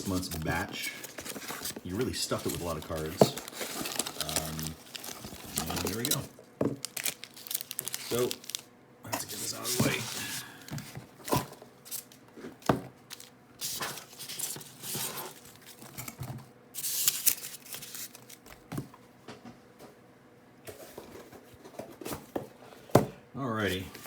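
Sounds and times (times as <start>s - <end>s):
paper and plastic rustling: 0.0s - 19.0s, 20.7s - 22.9s.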